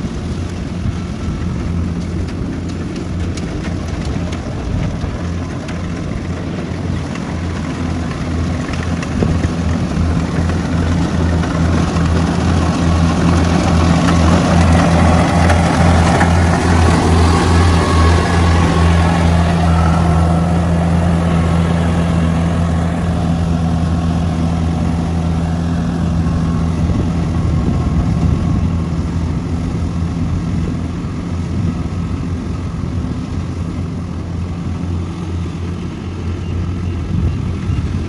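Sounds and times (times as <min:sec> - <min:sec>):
combine harvester engine humming: 0:00.0 - 0:38.0.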